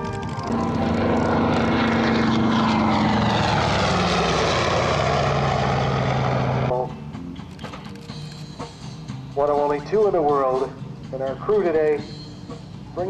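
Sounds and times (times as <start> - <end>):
propeller aircraft engine: 0.0 - 13.0.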